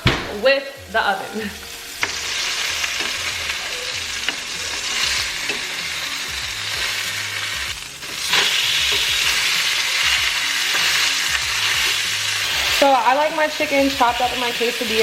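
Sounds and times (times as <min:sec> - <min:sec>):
chicken sizzling in hot oil: 0:01.6 - 0:15.0.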